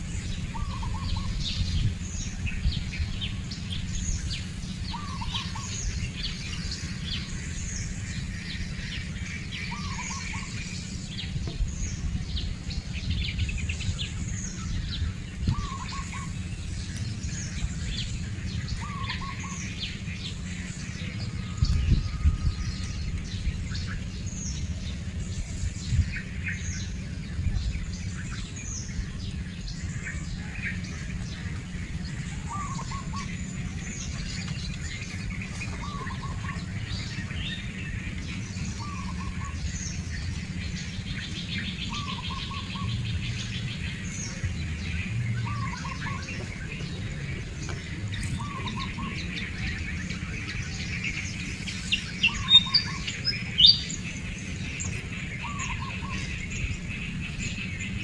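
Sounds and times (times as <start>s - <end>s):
low thumps and rumble: 0.0s - 50.6s
birds chirping and calling: 0.0s - 58.0s.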